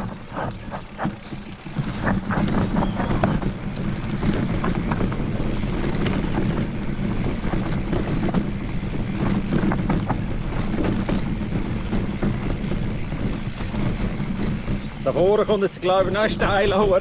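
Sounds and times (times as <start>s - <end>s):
bike clicks and rattles: 0.0s - 17.0s
tyre and wind rumble: 0.0s - 17.0s.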